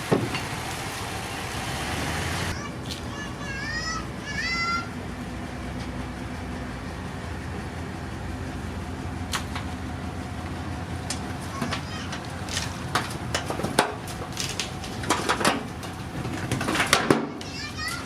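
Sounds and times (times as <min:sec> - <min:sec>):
diesel machinery engine running: 0:00.0 - 0:18.0.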